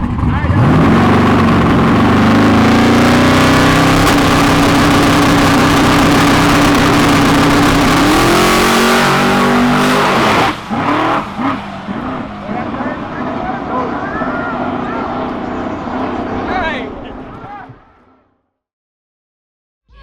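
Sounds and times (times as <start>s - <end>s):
car engine at full throttle: 0.0s - 17.6s.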